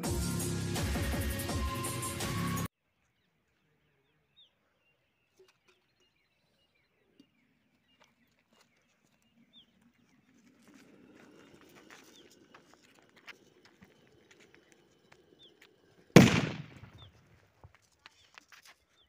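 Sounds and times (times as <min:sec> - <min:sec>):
faint birdsong chirps: 0:01.6 - 0:19.0.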